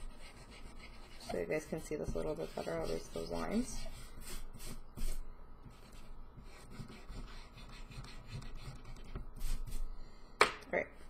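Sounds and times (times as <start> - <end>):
pencil scratching on paper: 0.0 - 9.8.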